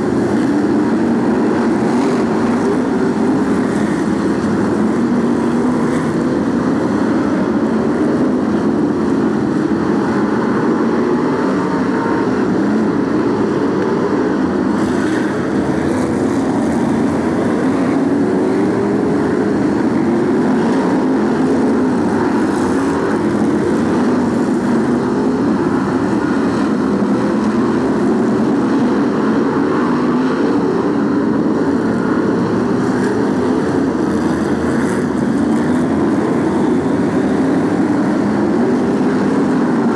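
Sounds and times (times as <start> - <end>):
stock car engines racing: 0.0 - 39.9.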